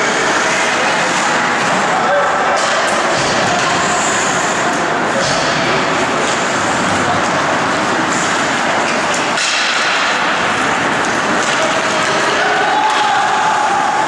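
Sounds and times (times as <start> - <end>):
ice hockey game din: 0.0 - 14.0.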